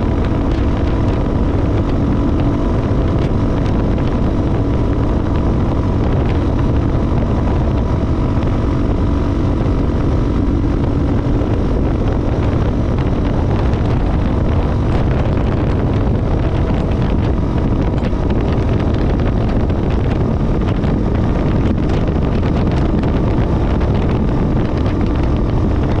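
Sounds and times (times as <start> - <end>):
motorcycle engine running: 0.0 - 26.0
wind buffeting microphone: 0.0 - 26.0.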